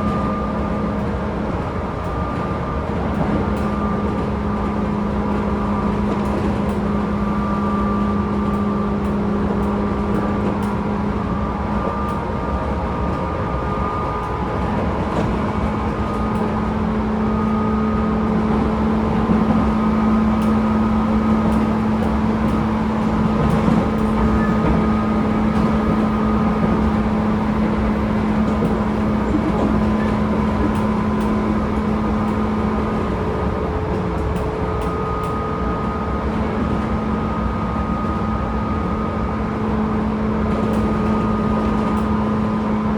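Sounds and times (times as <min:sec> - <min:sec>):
train wheel and motor rumble: 0:00.0 - 0:42.9.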